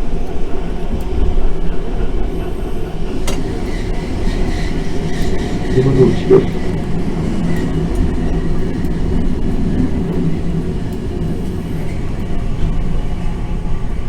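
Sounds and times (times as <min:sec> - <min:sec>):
tram wheels rumbling: 0:00.0 - 0:14.0
faint hum: 0:01.7 - 0:14.0.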